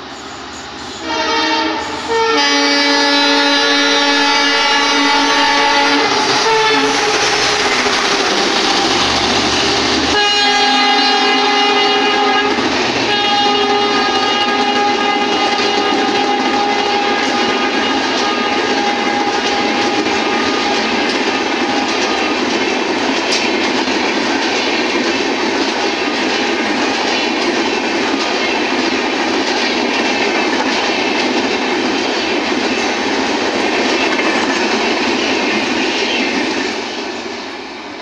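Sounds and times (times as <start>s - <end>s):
train wheels rushing on rails: 0.0s - 38.0s.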